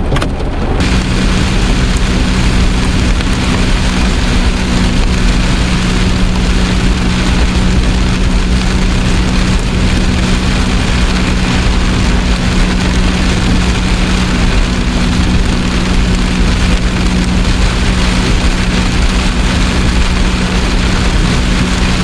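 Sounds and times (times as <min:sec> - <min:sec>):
heavy rain on vehicle roof: 0:00.0 - 0:22.0
steady low hum: 0:00.8 - 0:22.0.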